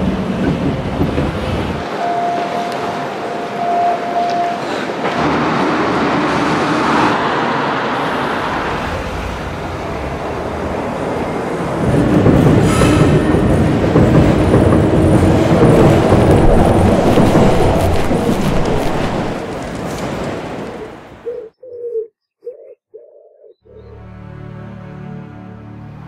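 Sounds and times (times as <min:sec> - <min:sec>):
train wheels rumbling on rails: 0:00.0 - 0:21.3.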